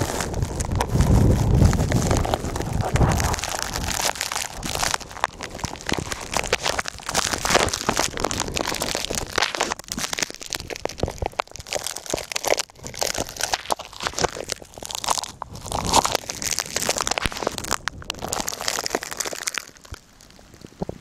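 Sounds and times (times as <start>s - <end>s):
snow crunching: 0.0s - 19.6s.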